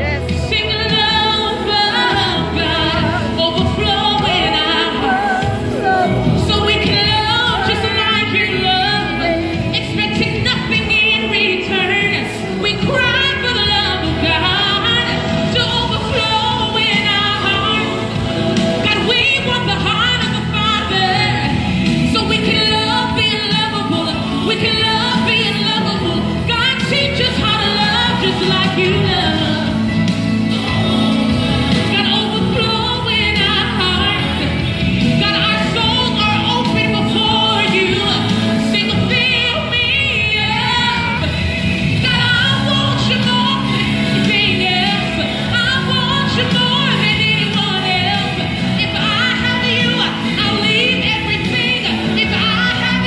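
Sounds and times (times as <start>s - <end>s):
keyboard accompaniment: 0.0s - 53.0s
woman singing into microphone: 0.0s - 53.0s.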